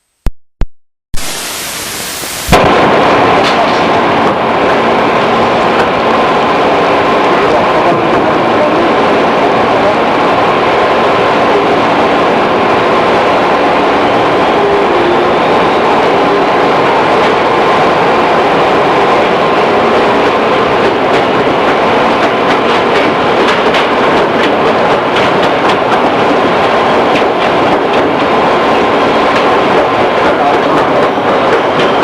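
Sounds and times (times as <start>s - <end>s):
train rolling and motor noise: 2.4s - 32.0s.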